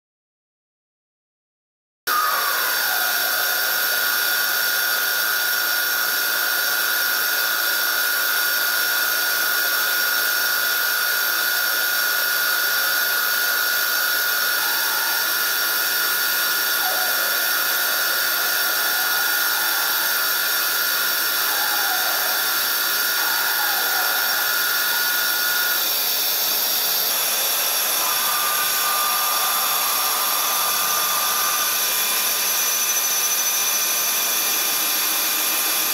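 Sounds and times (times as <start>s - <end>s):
hiss: 2.1s - 35.9s
welding machine whine: 2.1s - 35.9s.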